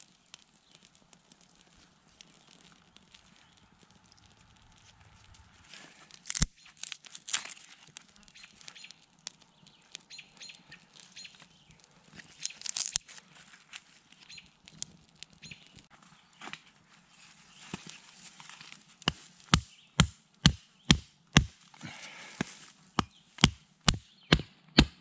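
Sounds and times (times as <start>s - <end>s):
twig fire crackling: 0.0s - 25.0s.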